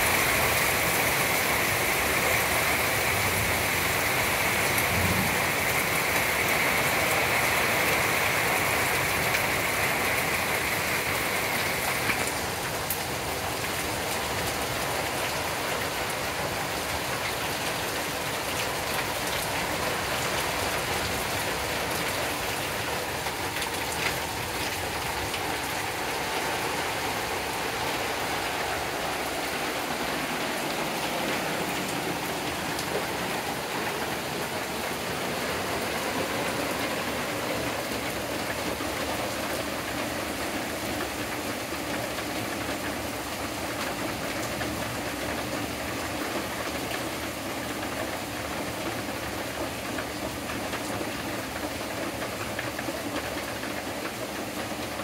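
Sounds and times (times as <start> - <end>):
rain falling on wooden deck: 0.0 - 55.0
sharp rain ticks: 0.0 - 55.0.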